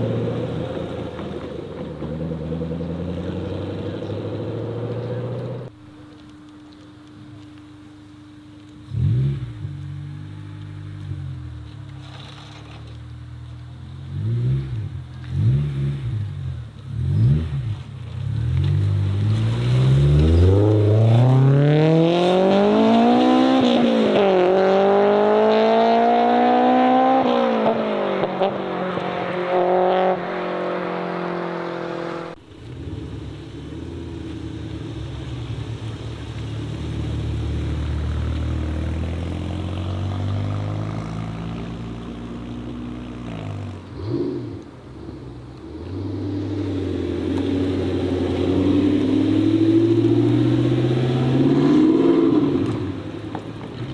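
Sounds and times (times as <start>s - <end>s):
car engine revving and accelerating: 0.0s - 5.7s, 8.8s - 12.8s, 13.9s - 53.9s
low car engine rumble: 0.0s - 53.9s.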